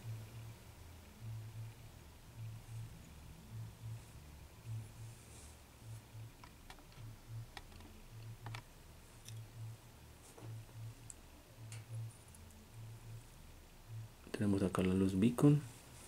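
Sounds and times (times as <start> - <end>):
low throb in pairs: 0.0 - 6.4, 7.0 - 14.3.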